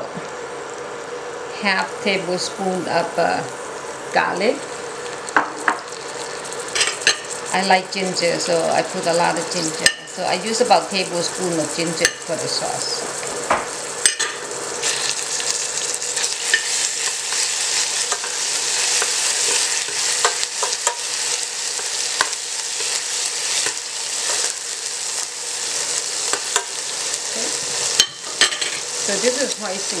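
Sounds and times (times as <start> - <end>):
garlic sizzling in oil: 0.0 - 30.0.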